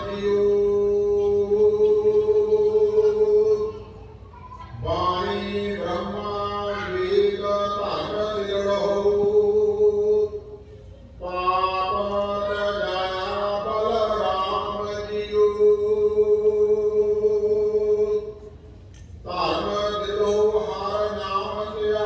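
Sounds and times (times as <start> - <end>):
hymn sung in held notes: 0.0 - 18.6, 19.2 - 22.0.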